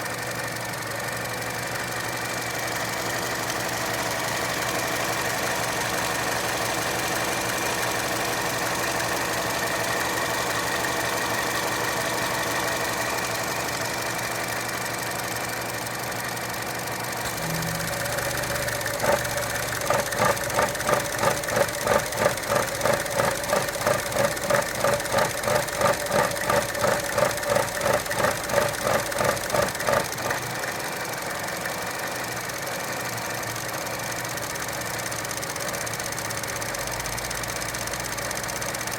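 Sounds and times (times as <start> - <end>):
car engine idling roughly: 0.0 - 38.9.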